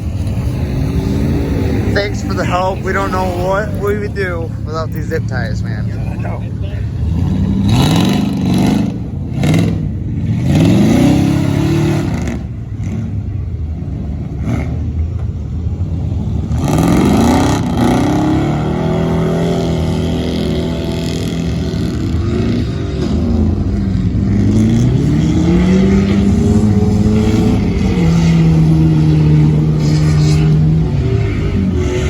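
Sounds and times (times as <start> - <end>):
vehicle engine revving: 0.0 - 32.0.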